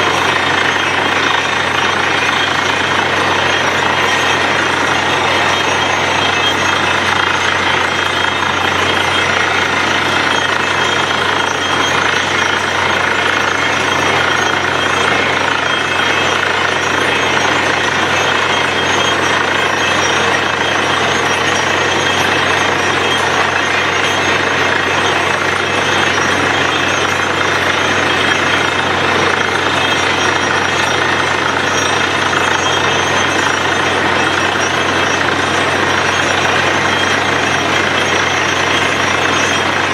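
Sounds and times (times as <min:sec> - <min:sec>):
drilling machine hammering rattle: 0:00.0 - 0:39.9
motor hum: 0:00.0 - 0:39.9.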